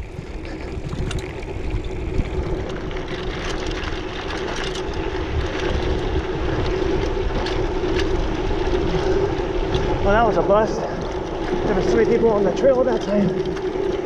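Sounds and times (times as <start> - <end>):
bike clicks and rattles: 0.0 - 14.0
bike tyres humming on dirt: 0.0 - 14.0
wind rumbling on microphone: 0.0 - 14.0.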